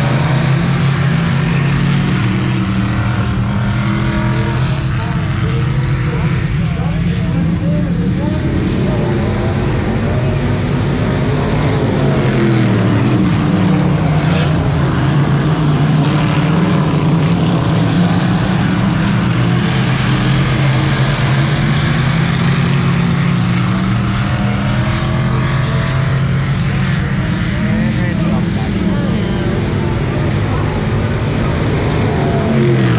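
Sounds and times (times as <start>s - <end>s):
race car engine droning: 0.0s - 32.9s.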